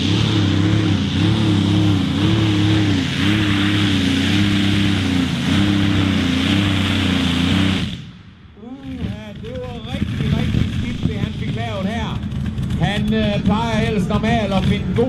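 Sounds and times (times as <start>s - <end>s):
tractor engine revving hard: 0.0s - 8.2s, 8.8s - 15.0s.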